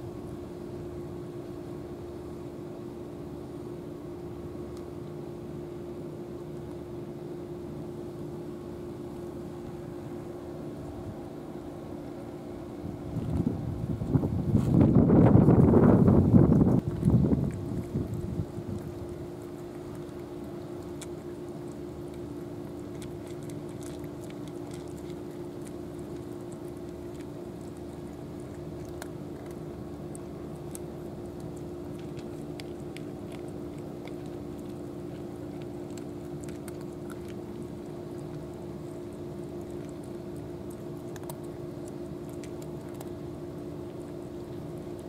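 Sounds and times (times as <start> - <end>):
steady low hum: 0.0 - 45.0
cats crunching dry kibble: 4.3 - 45.0.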